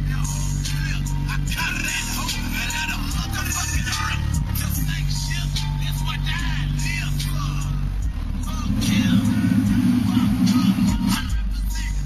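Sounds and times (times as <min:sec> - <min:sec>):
rap music on car stereo: 0:00.0 - 0:12.0.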